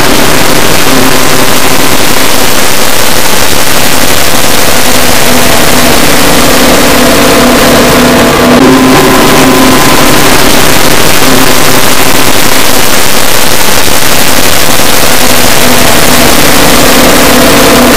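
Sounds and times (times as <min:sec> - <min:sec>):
dense hiss: 0:00.0 - 0:17.9
loud distorted wall of noise: 0:00.0 - 0:17.9
steady tones: 0:00.0 - 0:17.9.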